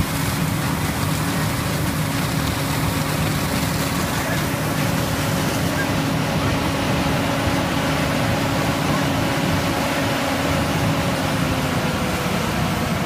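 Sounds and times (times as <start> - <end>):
fire engine pump drone: 0.0 - 13.0
water stream rushing: 0.0 - 13.0.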